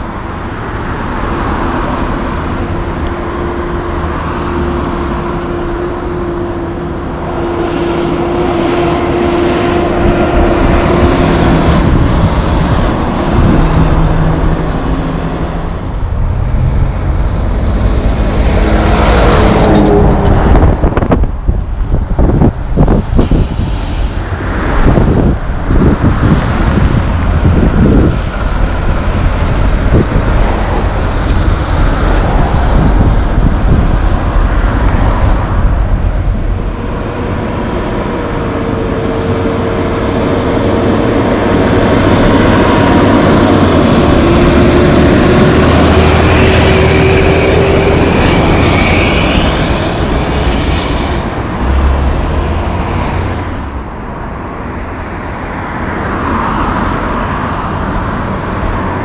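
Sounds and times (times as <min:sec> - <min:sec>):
road traffic passing: 0:00.0 - 0:59.0.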